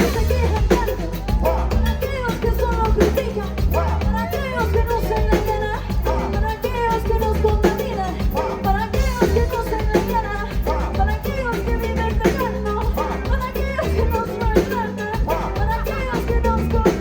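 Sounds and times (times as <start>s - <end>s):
bass line: 0.0s - 17.0s
drum kit beat: 0.0s - 17.0s
live latin pop band playing: 0.0s - 17.0s.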